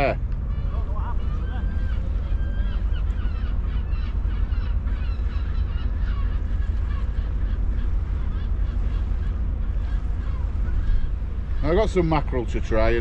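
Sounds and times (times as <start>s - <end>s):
low rumble: 0.0s - 13.0s
flock of birds calling: 0.4s - 13.0s.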